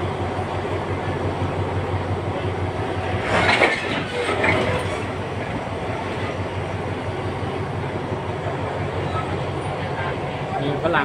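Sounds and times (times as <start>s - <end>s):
train coaches rolling over rails: 0.0s - 11.0s.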